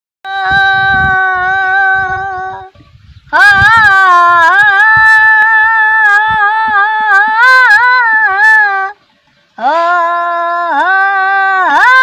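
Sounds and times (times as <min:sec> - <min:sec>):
person singing long notes: 0:00.2 - 0:09.0, 0:09.6 - 0:12.0.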